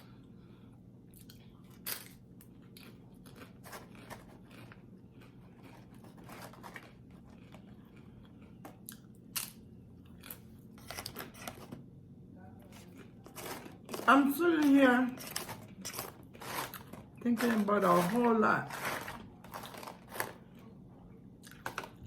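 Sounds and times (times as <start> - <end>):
person chewing crunchy food: 1.1 - 11.8, 12.6 - 20.8, 21.4 - 22.0.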